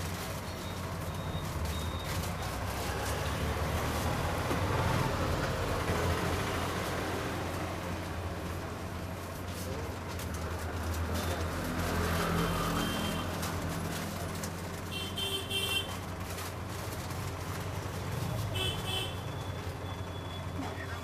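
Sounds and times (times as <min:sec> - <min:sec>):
low traffic rumble: 0:00.0 - 0:21.0.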